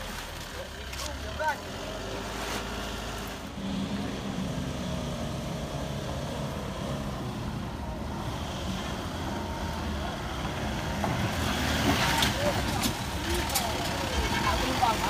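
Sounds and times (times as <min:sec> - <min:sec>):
truck engine under load: 0:00.0 - 0:15.0.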